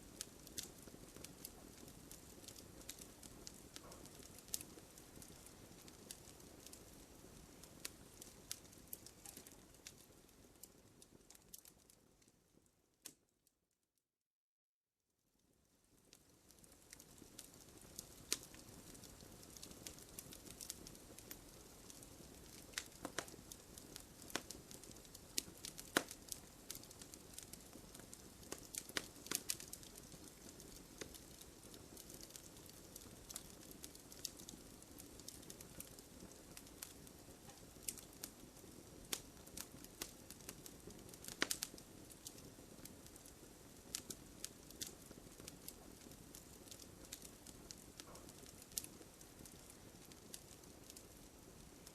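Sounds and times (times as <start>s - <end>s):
campfire hiss: 0.0s - 12.0s, 16.0s - 51.9s
campfire crackling and popping: 0.0s - 13.2s, 15.9s - 51.9s.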